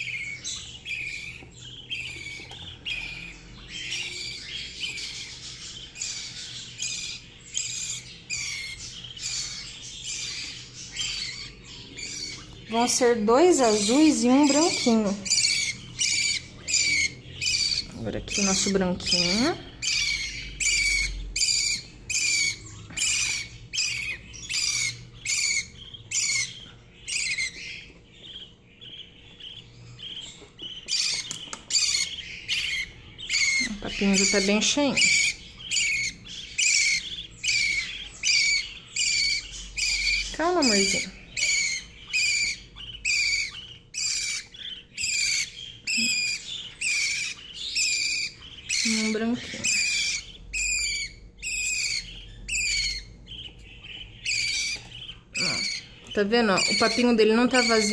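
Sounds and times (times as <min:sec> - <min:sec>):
bird chick begging calls: 0:00.0 - 0:57.9.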